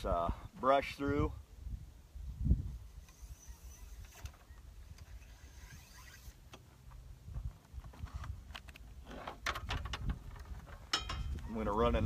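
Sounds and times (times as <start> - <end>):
wind rumbling on microphone: 0.0 - 6.3, 7.0 - 12.0.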